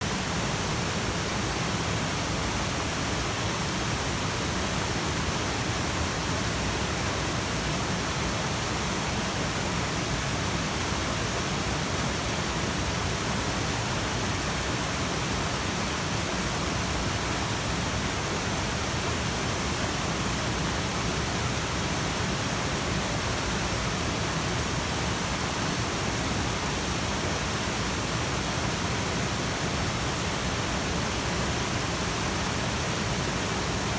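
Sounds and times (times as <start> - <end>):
mountain stream rushing: 0.0 - 33.9.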